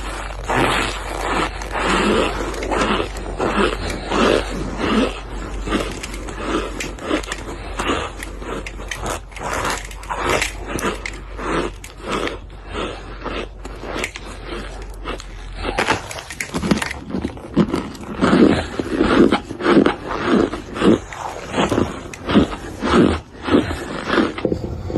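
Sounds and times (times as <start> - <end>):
chewing crunchy food: 0.0 - 24.9.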